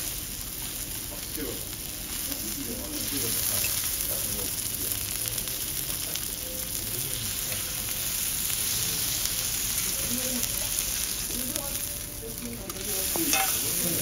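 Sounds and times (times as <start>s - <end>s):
steak sizzling on a griddle: 0.0s - 14.0s.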